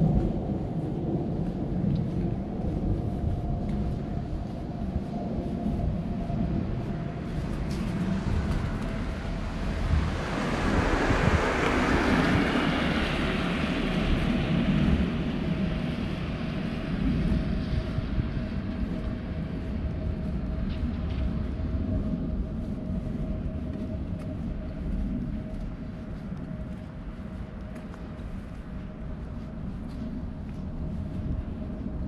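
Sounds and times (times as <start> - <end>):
rush of noise: 0.0 - 32.0
vehicle low rumble: 0.0 - 32.0.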